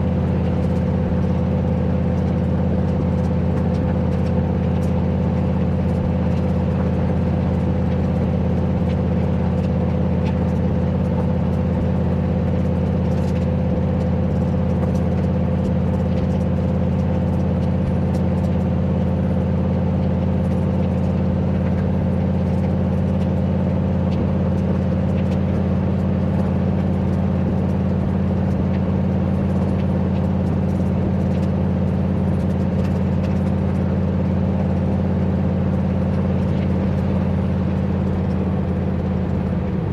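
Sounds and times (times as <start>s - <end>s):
car engine loud low drone: 0.0s - 39.9s.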